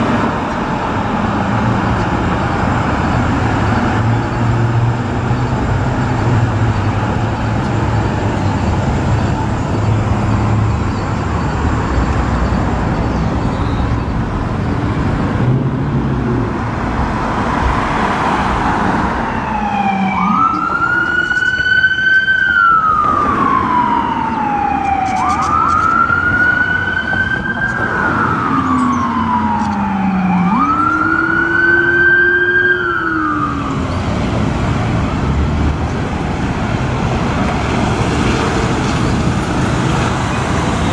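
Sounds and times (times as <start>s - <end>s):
ambulance siren wailing: 0.0s - 40.9s
traffic rumbling: 0.0s - 40.9s.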